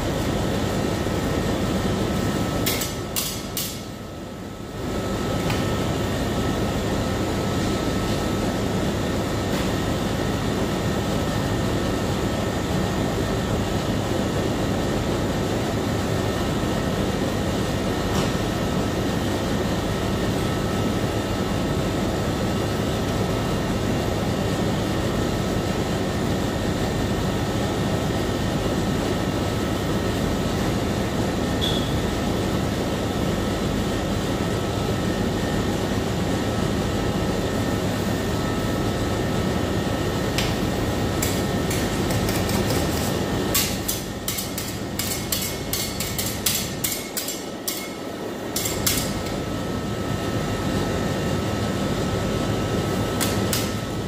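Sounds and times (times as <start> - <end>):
refrigeration machine hum: 0.0 - 54.0.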